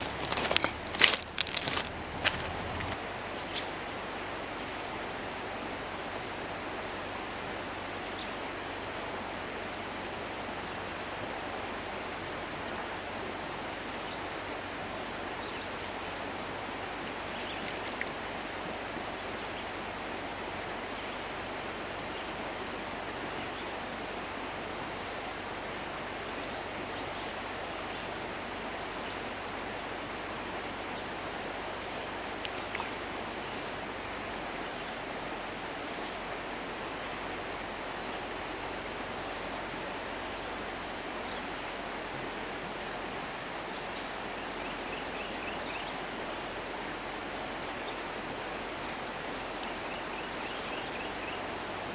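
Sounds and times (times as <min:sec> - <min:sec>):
flowing river water: 0:00.0 - 0:51.9.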